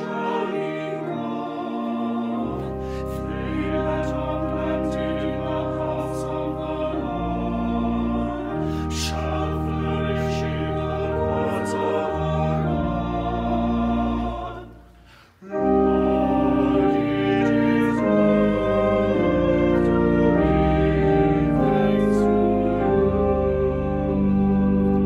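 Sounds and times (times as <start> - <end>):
choir singing: 0.0 - 25.0
church organ: 0.0 - 25.0.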